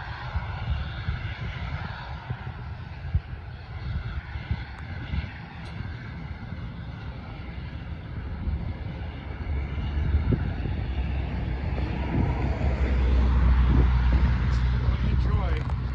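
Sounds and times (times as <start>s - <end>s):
distant aircraft engines: 0.0s - 15.9s
wind buffeting microphone: 0.0s - 15.9s.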